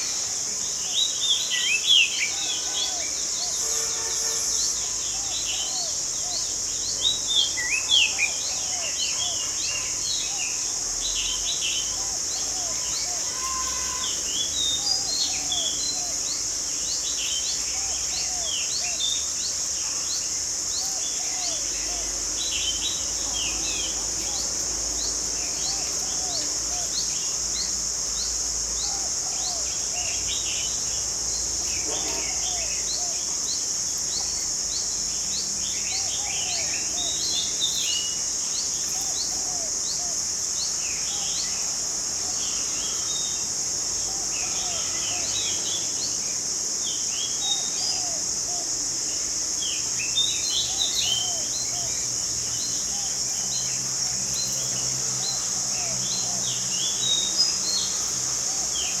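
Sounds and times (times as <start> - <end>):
birds chirping: 0.0 - 46.2, 46.8 - 59.0
high-pitched insect drone: 0.0 - 59.0.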